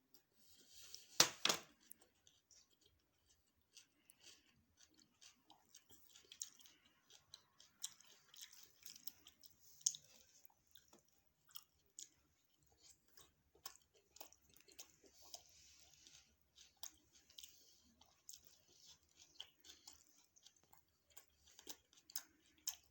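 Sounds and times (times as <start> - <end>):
chewing food: 0.0 - 22.9.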